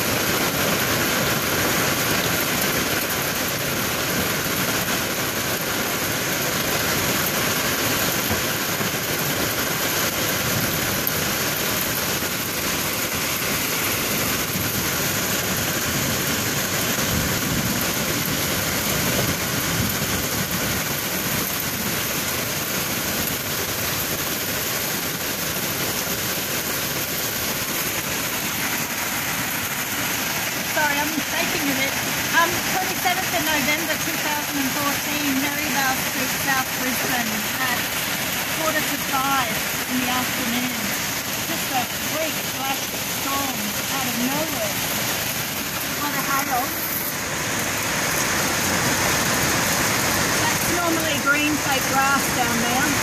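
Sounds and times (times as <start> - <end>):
heavy hail and rain: 0.0 - 53.0.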